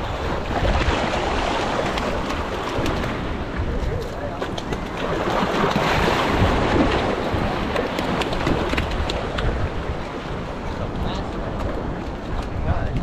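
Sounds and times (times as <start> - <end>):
surf: 0.0 - 13.0
wind buffeting microphone: 0.0 - 13.0.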